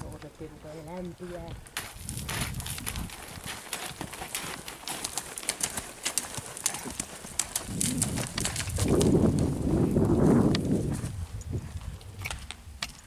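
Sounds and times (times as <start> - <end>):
horse hoofbeats on sand: 0.8 - 13.0.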